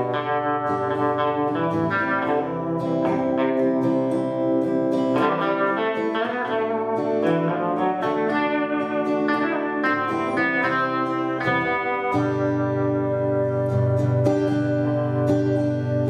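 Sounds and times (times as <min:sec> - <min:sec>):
acoustic guitar: 0:00.0 - 0:16.0
electric guitar: 0:00.0 - 0:16.0.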